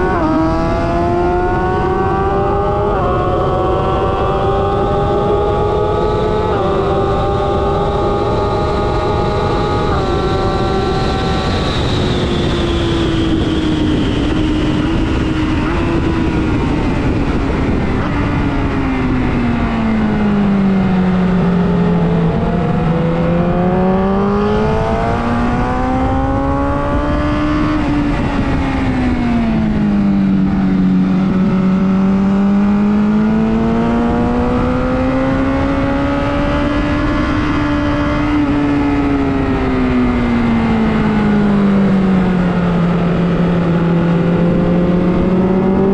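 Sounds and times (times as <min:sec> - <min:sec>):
motorcycle engine revving: 0:00.0 - 0:45.9
wind noise rushing: 0:00.0 - 0:45.9.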